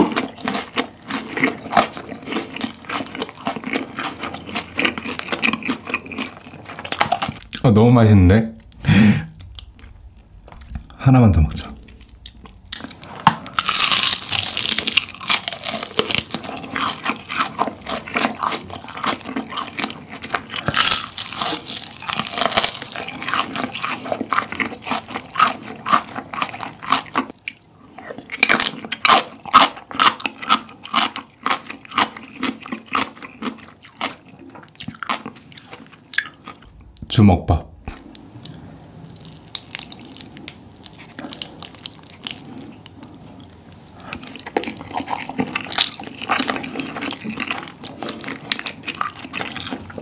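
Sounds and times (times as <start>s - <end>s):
crunchy chewing of fried chicken: 0.0s - 7.6s, 11.7s - 36.8s, 37.9s - 50.0s.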